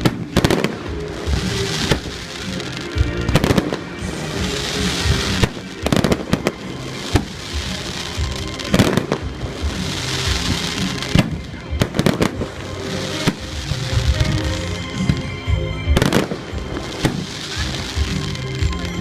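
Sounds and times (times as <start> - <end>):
fireworks bangs: 0.0 - 19.0
fireworks crackling and hiss: 0.0 - 19.0
music playing: 0.0 - 19.0.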